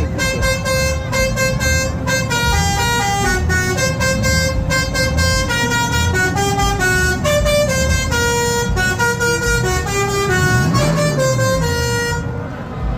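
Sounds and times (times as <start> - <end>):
musical air horns playing a tune: 0.0 - 12.4.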